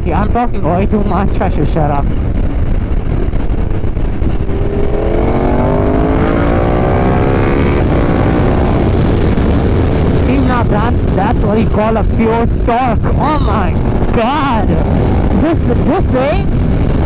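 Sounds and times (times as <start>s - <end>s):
wind rumble on microphone: 0.0s - 17.0s
motorcycle engine accelerating: 2.0s - 17.0s.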